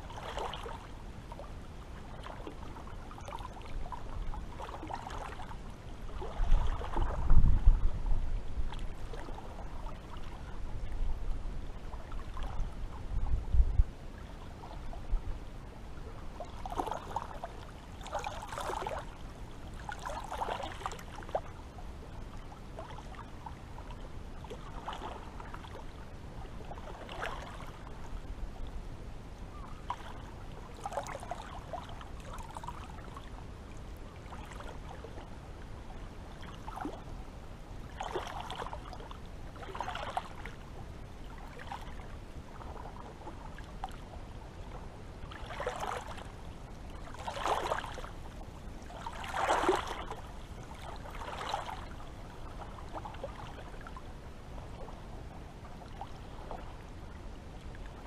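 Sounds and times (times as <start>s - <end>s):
small waves lapping at shore: 0.0s - 58.0s.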